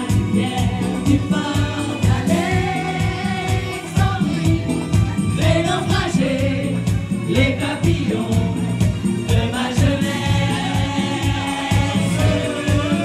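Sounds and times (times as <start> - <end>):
voices singing over a beat: 0.0 - 13.0.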